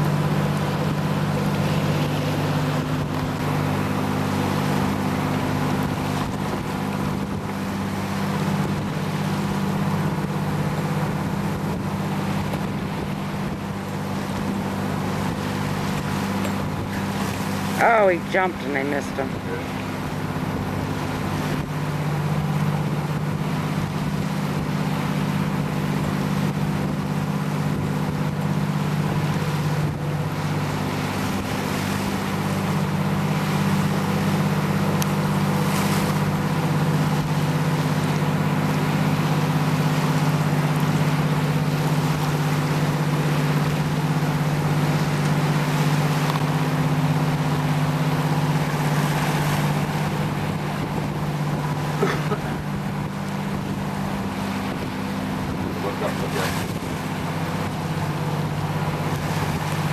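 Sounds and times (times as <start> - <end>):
boat motor humming: 0.0 - 59.9
water rushing: 0.0 - 59.9.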